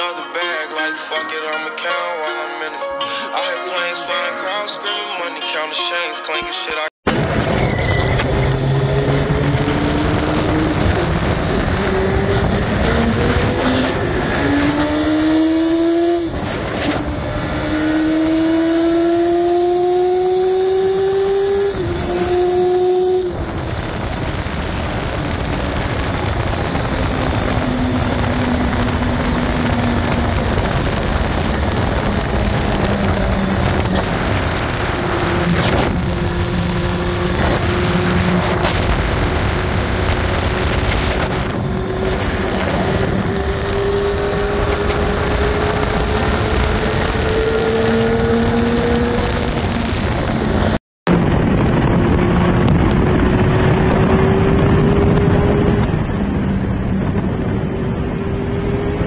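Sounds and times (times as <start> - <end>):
motorcycle engine accelerating: 7.1 - 59.0
wind rush: 7.1 - 59.0.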